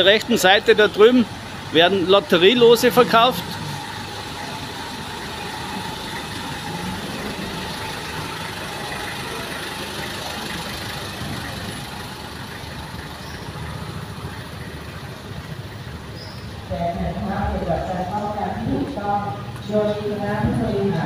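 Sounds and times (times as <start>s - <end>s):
street traffic: 0.0s - 21.0s
vehicle engine running: 0.0s - 21.0s.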